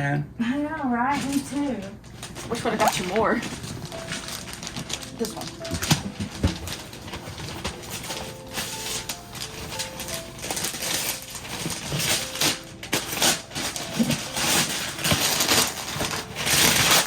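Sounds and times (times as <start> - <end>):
wrapping paper rustling and tearing: 1.1 - 17.0.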